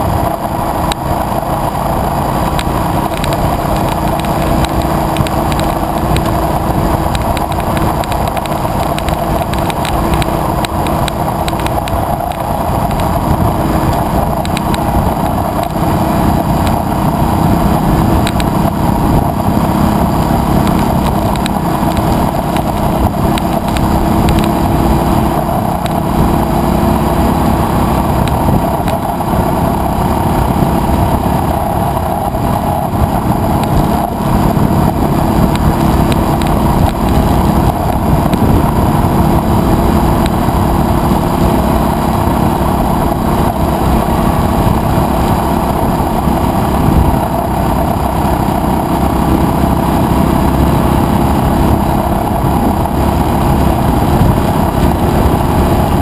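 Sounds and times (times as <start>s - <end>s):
motorcycle engine cruising: 0.0s - 56.0s
road noise: 0.0s - 56.0s
wind noise: 0.0s - 56.0s.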